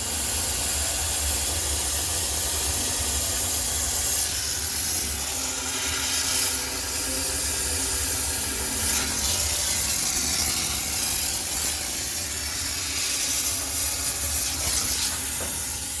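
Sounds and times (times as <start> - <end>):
steam cleaner hissing: 0.0 - 16.0
washing machine low hum: 0.0 - 16.0.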